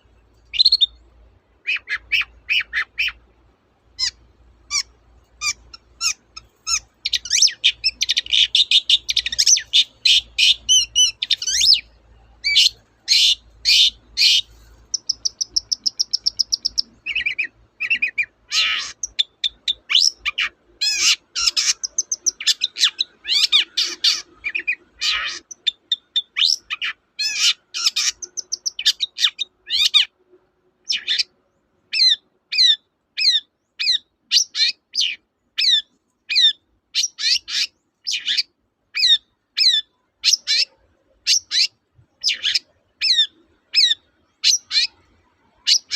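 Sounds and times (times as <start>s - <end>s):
bird singing varied song: 0.0s - 3.3s, 3.9s - 45.9s.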